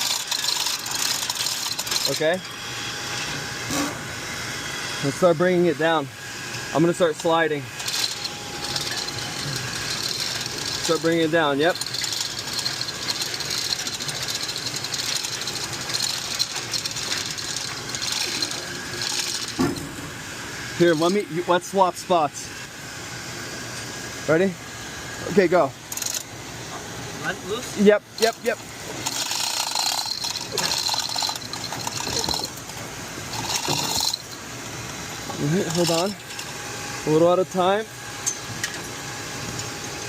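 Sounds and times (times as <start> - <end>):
fast mechanical rattle with hiss: 0.0 - 4.1, 5.0 - 21.8, 23.9 - 40.0.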